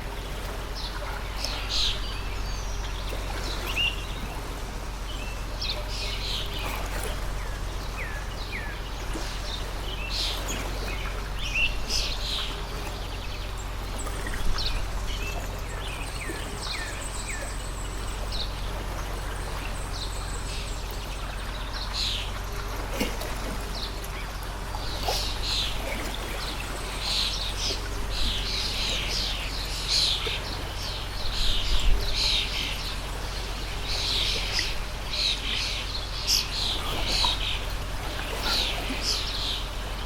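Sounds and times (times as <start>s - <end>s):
birds chirping: 0.0s - 40.0s
stream of water running: 0.0s - 40.0s.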